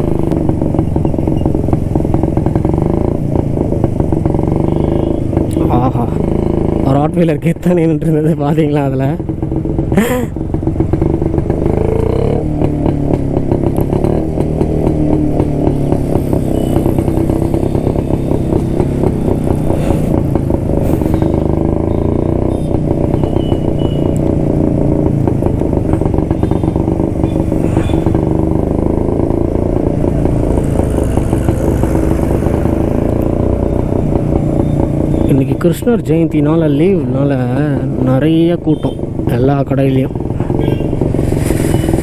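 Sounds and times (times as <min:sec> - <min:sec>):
two-stroke motorcycle engine running: 0:00.0 - 0:42.0.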